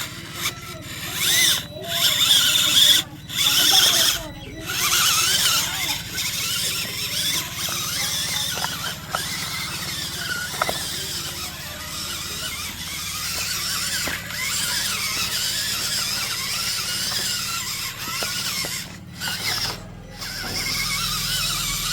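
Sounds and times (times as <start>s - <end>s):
high wavering gear squeal: 0.0s - 21.9s
toy motor low hum: 0.0s - 21.9s.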